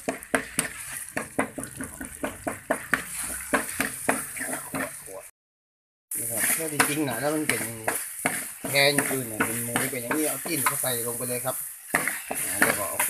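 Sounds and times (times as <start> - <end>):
oil sizzling: 0.0 - 5.3, 6.1 - 13.0
metal spoon scraping a wok: 0.3 - 5.1, 6.2 - 13.0.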